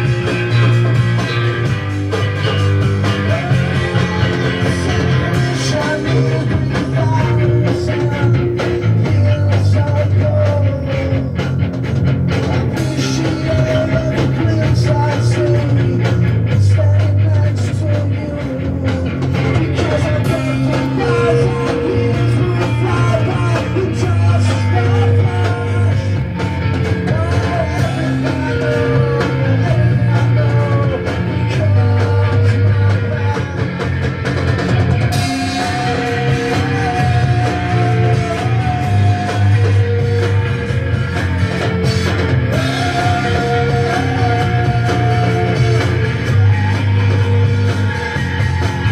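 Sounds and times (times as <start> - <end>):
rock band playing: 0.0 - 48.9.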